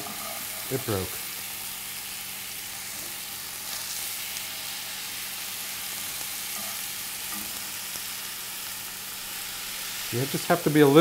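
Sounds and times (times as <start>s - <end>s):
mushrooms sizzling in hot oil: 0.0s - 11.0s.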